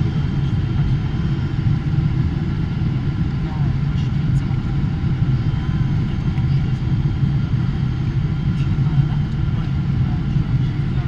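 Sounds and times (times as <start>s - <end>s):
aircraft cabin engine rumble: 0.0s - 11.0s
faint engine whine: 0.0s - 11.0s.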